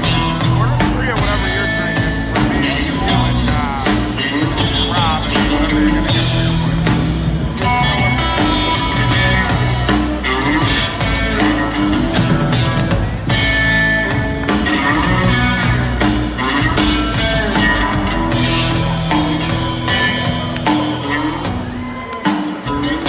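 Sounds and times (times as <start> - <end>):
drum kit: 0.0 - 23.0
electric guitar: 0.0 - 23.0
upright bass: 0.0 - 23.0.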